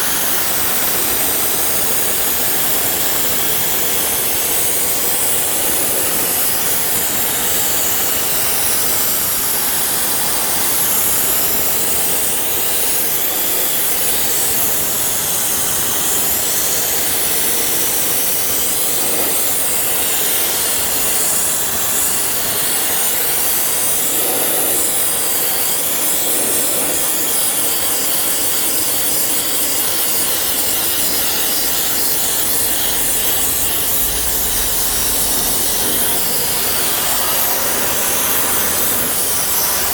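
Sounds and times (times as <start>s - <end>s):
high-pressure water jet hissing: 0.0s - 39.9s.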